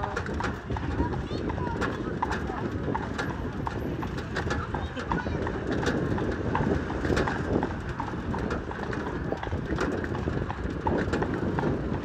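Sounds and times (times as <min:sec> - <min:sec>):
horse hooves clip-clopping on pavement: 0:00.0 - 0:12.0
low rumble of cart: 0:00.0 - 0:12.0.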